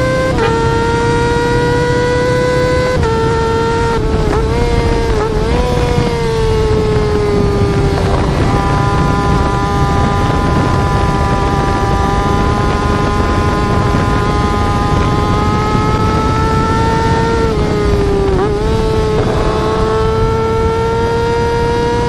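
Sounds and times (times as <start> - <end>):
motorcycle engine: 0.0 - 22.0
wind and road noise: 0.0 - 22.0.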